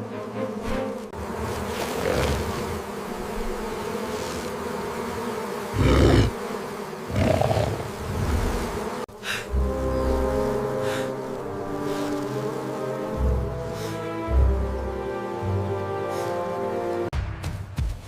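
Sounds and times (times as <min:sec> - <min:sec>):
bees buzzing: 0:00.0 - 0:17.1.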